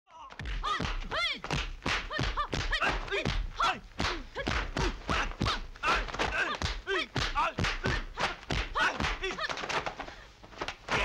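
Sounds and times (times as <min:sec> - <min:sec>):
punch and kick impacts: 0:00.4 - 0:09.9.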